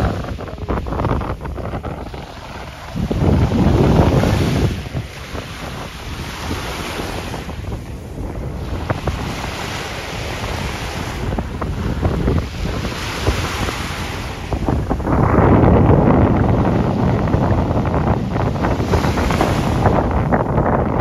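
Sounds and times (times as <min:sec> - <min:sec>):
small waves washing onto shore: 0:00.0 - 0:21.0
wind buffeting microphone: 0:00.0 - 0:21.0.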